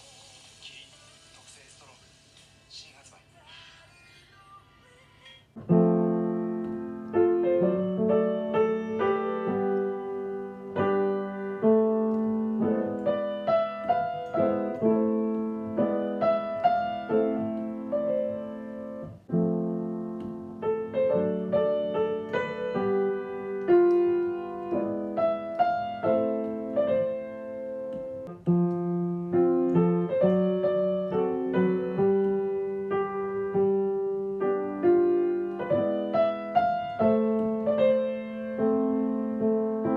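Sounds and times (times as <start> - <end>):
solo piano pop song: 5.5 - 39.9.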